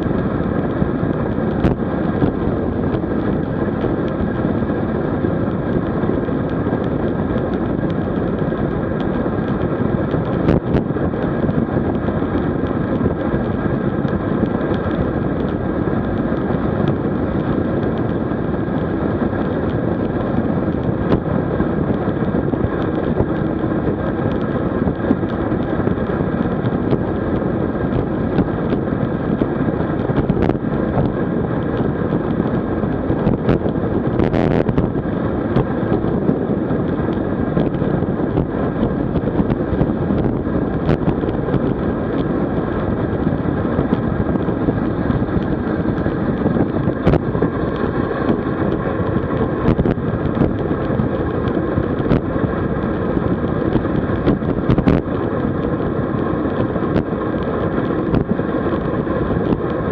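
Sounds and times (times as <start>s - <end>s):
bicycle road noise: 0.0s - 59.9s
wind buffeting microphone: 0.0s - 59.9s.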